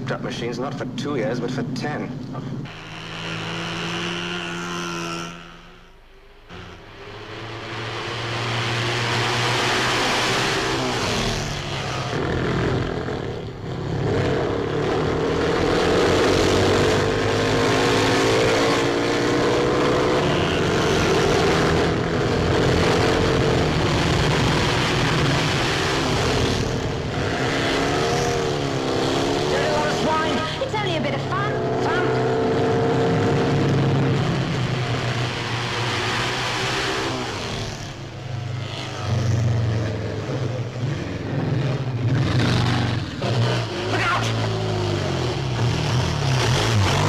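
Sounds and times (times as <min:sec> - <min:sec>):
motorcycle and scooter engines: 0:00.0 - 0:47.0.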